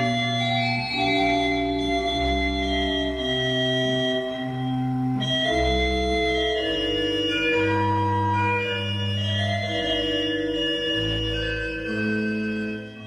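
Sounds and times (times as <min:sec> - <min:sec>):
slow organ music: 0:00.0 - 0:13.0.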